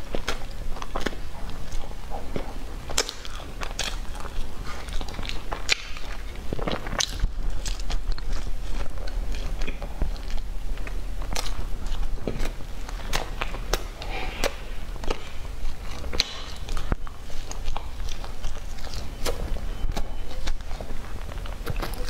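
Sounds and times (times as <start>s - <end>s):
chewing with wet mouth clicks: 0.0s - 22.0s.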